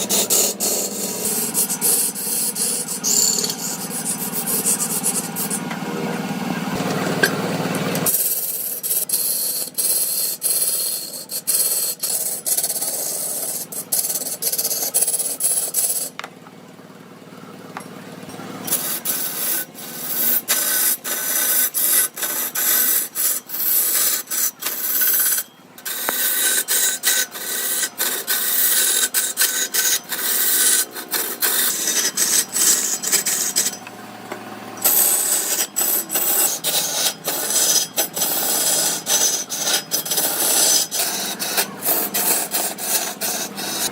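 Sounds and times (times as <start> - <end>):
tool rasping into wood: 0.0 - 5.8, 8.0 - 16.2, 18.7 - 33.9, 34.8 - 43.9.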